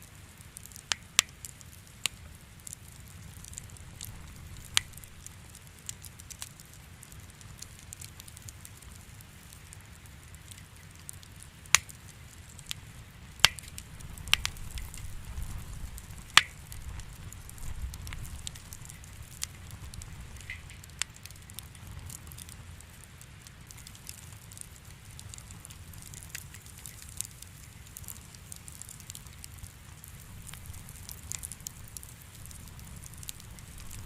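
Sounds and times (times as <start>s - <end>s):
low rumble of flames: 0.0s - 34.0s
wood fire crackling: 0.0s - 34.0s
sharp pops of fire: 0.3s - 34.0s.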